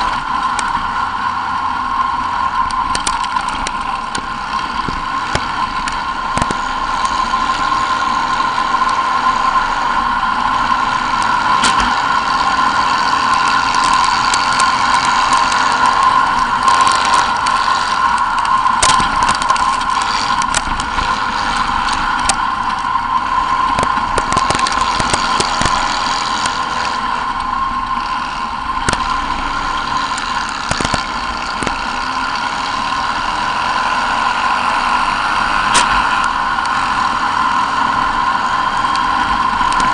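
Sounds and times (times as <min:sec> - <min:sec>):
buggy engine running hard: 0:00.0 - 0:39.9.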